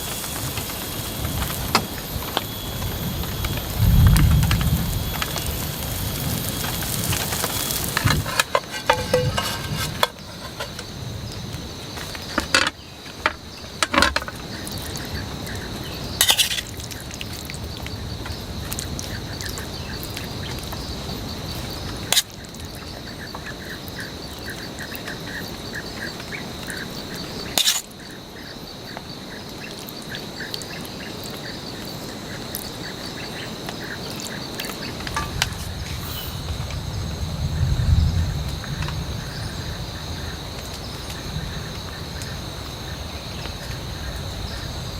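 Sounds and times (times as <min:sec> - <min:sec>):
high insect drone: 0:00.0 - 0:44.9
light rain hiss: 0:00.0 - 0:44.9.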